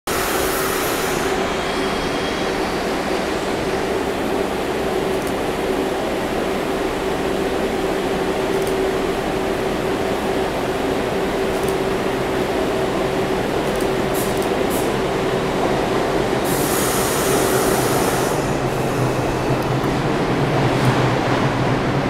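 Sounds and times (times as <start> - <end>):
subway train rumble and hum: 0.1 - 22.0.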